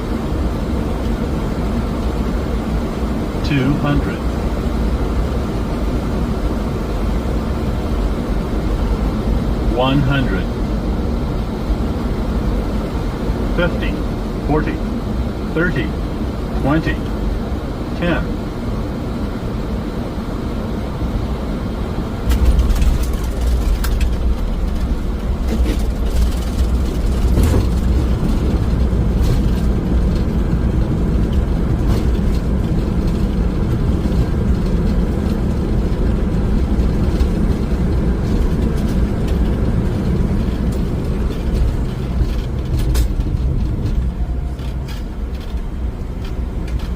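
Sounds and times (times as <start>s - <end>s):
jet engine noise: 0.0s - 46.9s
wheels rumbling on runway: 0.0s - 46.9s.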